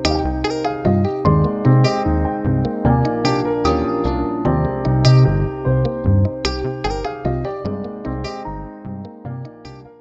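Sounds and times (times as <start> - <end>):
steady bass line: 0.0 - 9.9
rapid keyboard notes: 0.0 - 10.0.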